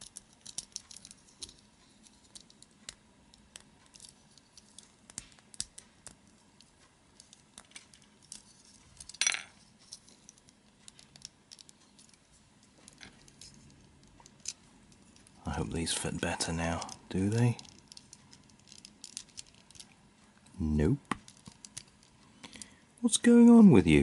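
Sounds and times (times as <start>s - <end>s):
plastic parts clicking and scraping: 0.0s - 15.4s, 16.5s - 20.0s, 21.1s - 22.7s.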